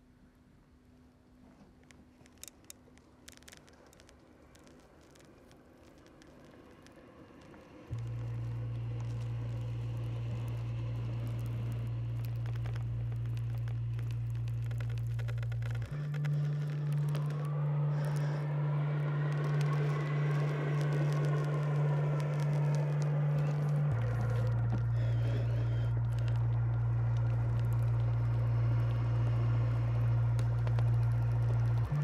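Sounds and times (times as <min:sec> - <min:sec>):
faint crackle: 0:00.0 - 0:32.0.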